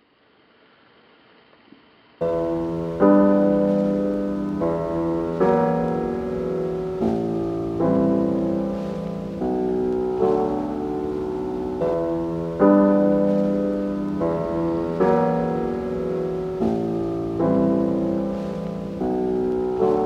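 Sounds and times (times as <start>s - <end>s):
slow solo piano chords: 2.2s - 20.0s.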